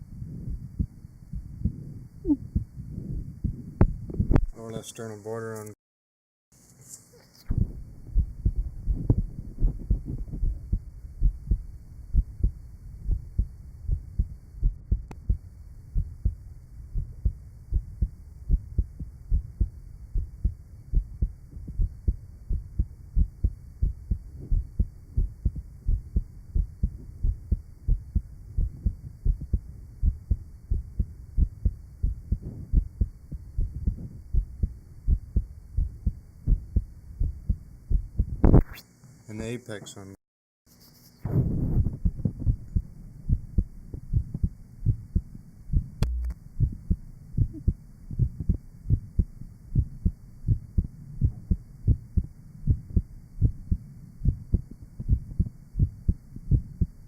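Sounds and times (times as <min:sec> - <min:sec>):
low heartbeat thumps: 0:00.0 - 0:04.5, 0:07.5 - 0:38.8, 0:41.2 - 0:57.0.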